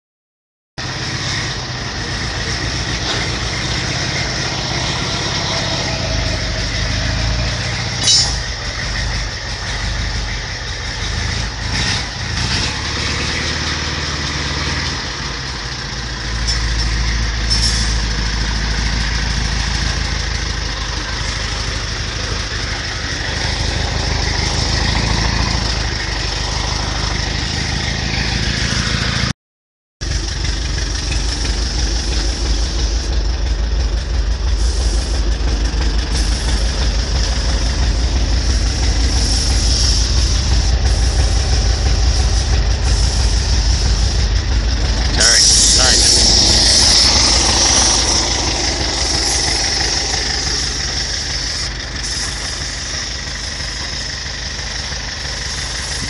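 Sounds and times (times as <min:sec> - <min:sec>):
vehicle engine idling: 0:00.8 - 0:29.3, 0:30.0 - 0:56.0.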